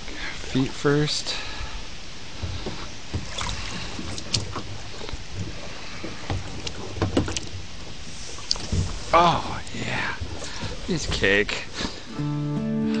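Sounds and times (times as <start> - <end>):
kayak paddle splashing: 0.0 - 12.2
steady water wash: 0.0 - 12.2.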